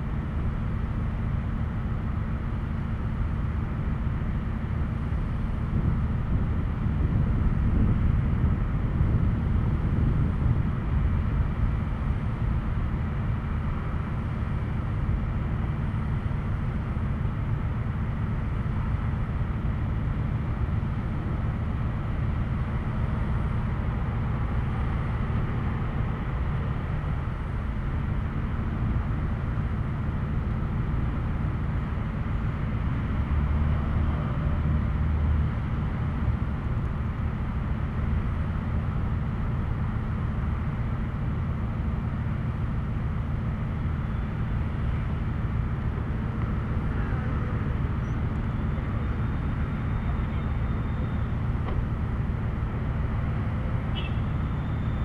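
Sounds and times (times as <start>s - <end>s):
low rumble of road traffic: 0.0s - 55.0s.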